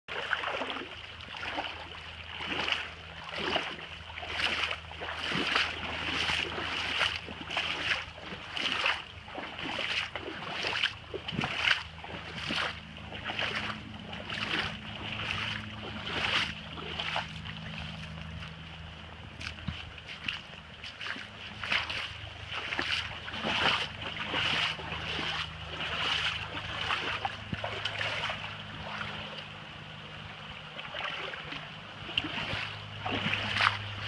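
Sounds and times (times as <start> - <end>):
footsteps wading through water: 0.1 - 34.0.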